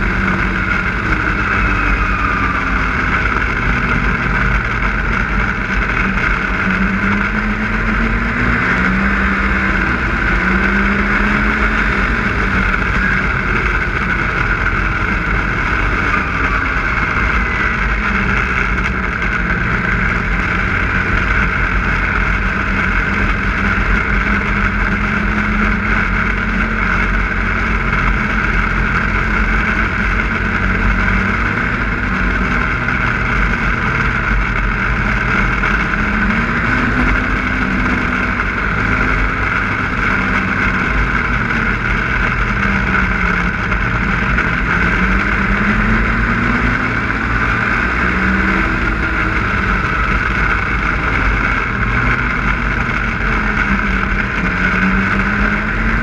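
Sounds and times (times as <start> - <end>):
snowmobile engine running: 0.0 - 56.0
track and wind noise: 0.0 - 56.0.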